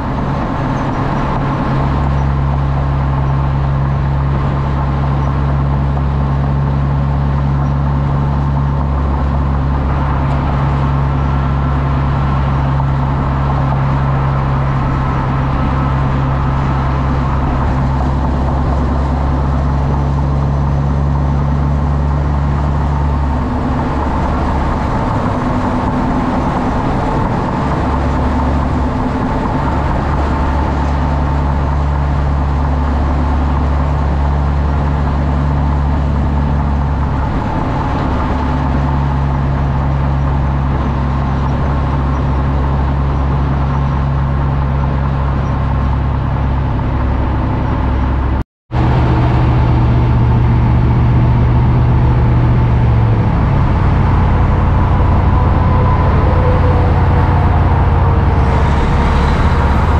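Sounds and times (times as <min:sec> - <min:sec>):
diesel trucks droning: 0:00.0 - 0:59.9.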